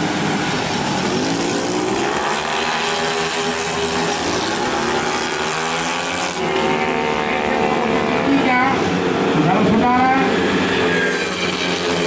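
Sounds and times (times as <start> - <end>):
scooter engines revving: 0.0 - 12.0.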